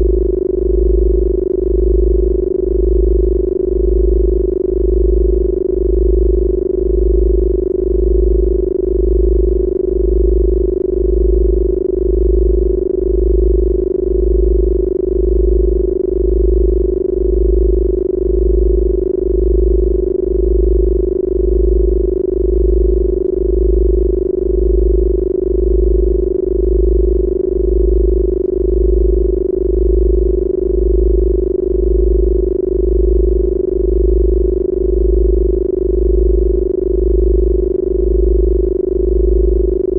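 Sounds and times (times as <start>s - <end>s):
deep pulsing bass tone: 0.0s - 39.9s
steady electronic tone: 0.0s - 39.9s.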